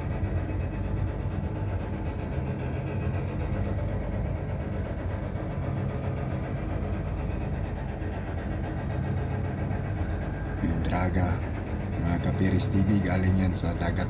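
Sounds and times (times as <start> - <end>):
engine and pump droning: 0.0 - 14.0.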